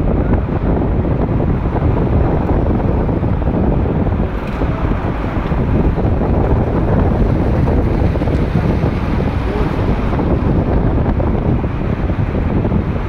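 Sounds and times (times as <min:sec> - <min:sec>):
road and traffic noise: 0:00.0 - 0:13.0
wind buffeting microphone: 0:00.0 - 0:13.0.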